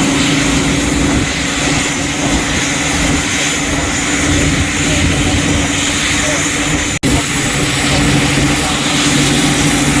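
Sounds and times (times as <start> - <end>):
faint high turbine whine: 0.0 - 10.0
turbine engines roaring: 0.0 - 10.0.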